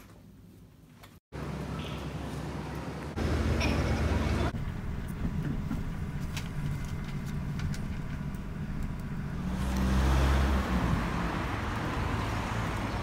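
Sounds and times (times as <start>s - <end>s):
vehicle rumbling: 1.4s - 13.0s.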